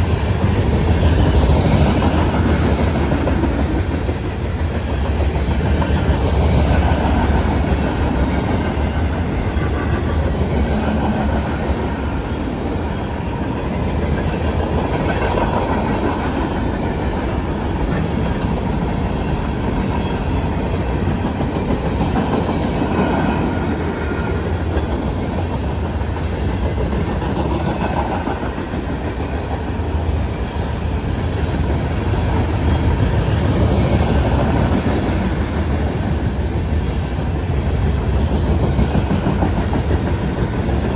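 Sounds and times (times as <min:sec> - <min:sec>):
train wheels clacking over rail joints: 0:00.0 - 0:40.9.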